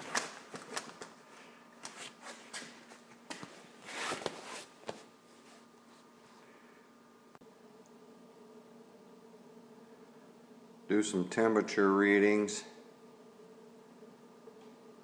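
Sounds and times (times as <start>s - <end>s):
faint stove fan hum: 0.0s - 15.0s.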